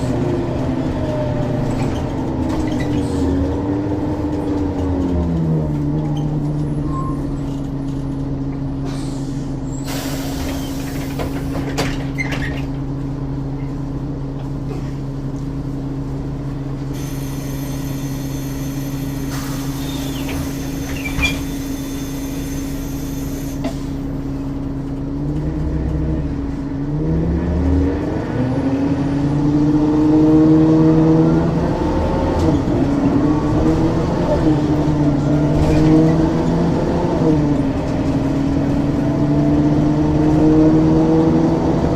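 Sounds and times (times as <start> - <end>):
bus diesel engine: 0.0 - 41.9.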